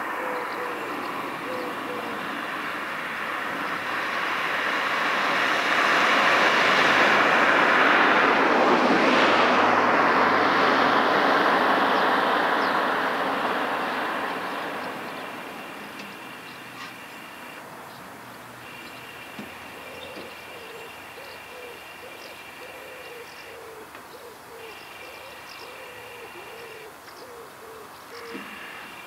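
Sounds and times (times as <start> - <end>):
passing vehicle rushing: 0.0 - 23.8.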